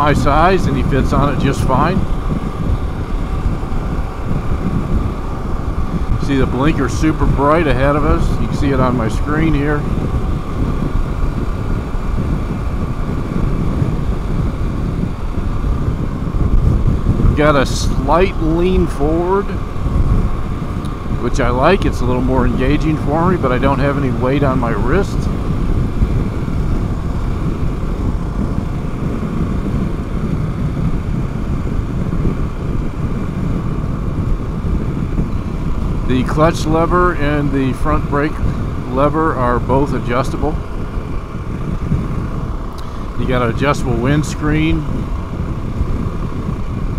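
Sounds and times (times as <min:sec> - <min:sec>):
motorcycle engine cruising: 0:00.0 - 0:46.9
wind and road noise: 0:00.0 - 0:46.9.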